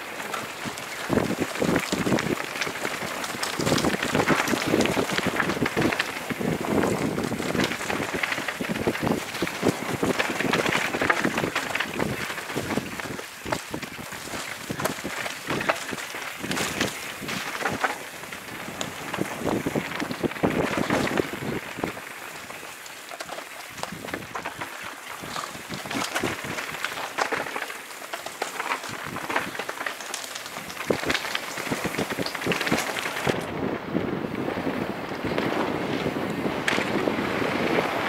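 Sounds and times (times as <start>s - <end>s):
bike knocking over roots and stones: 0.0s - 33.5s, 35.1s - 38.0s
bike rattling: 0.0s - 38.0s
tyres crackling over leaves and dirt: 0.0s - 38.0s.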